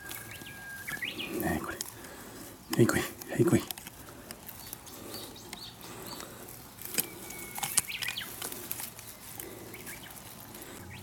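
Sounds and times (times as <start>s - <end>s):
tool clicking and scraping tree bark: 0.0s - 11.0s.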